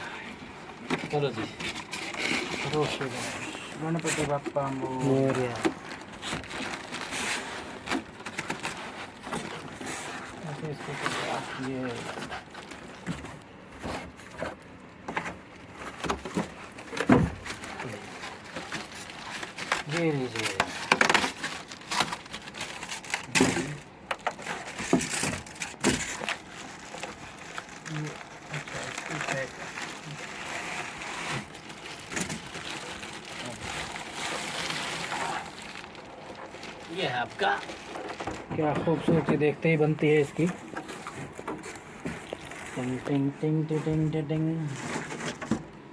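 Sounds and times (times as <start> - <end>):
packaging rustles and knocks: 0.6 - 45.8.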